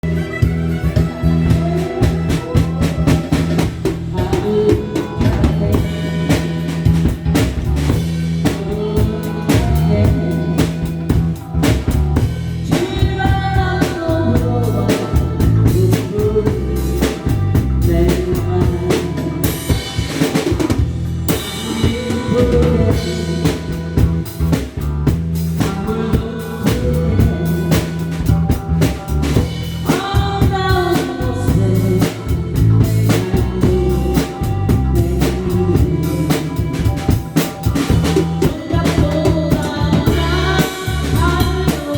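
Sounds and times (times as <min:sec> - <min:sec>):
person singing: 0:00.0 - 0:20.7, 0:21.3 - 0:41.9
drum kit playing a busy beat: 0:00.0 - 0:41.9.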